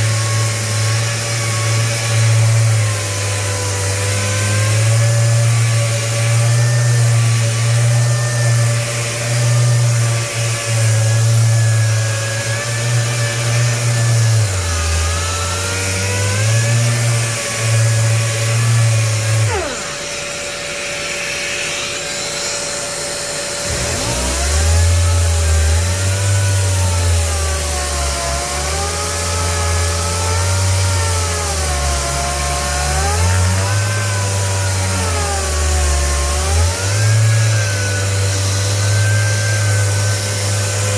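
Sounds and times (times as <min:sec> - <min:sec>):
dust extractor whine: 0:00.0 - 0:40.9
orbital sander running: 0:00.0 - 0:40.9.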